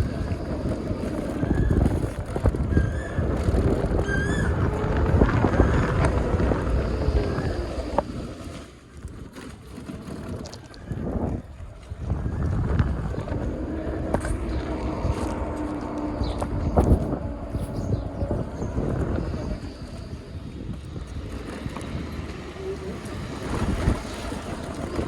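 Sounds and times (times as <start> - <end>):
road and traffic noise: 0.0 - 25.0
wind buffeting microphone: 0.0 - 25.0.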